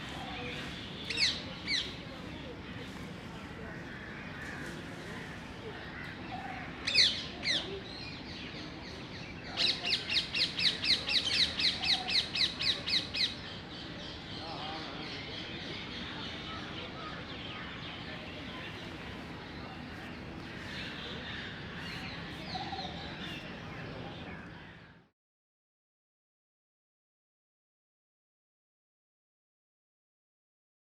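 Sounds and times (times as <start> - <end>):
outdoor background hum: 0.0 - 25.1.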